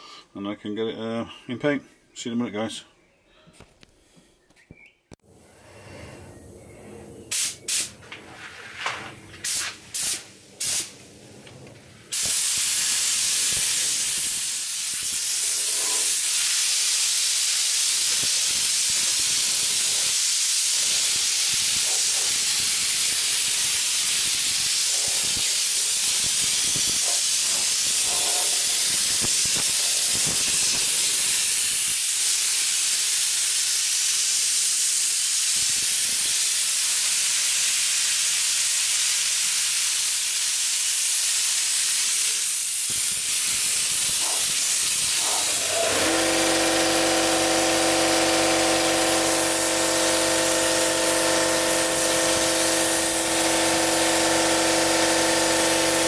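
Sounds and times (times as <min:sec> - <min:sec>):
spray gun hissing: 0:07.3 - 0:08.0, 0:09.4 - 0:11.0, 0:12.1 - 0:56.0.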